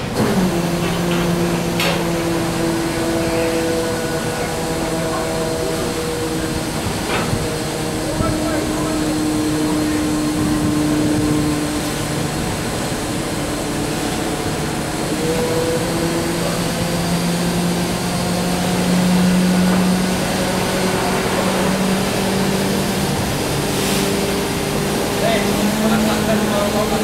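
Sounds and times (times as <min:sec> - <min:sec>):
boat engine drone: 0:00.0 - 0:27.0.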